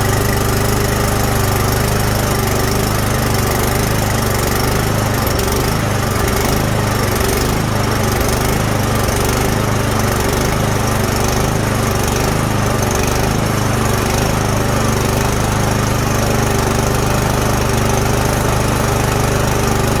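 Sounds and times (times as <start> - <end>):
snowblower engine running: 0.0 - 20.0.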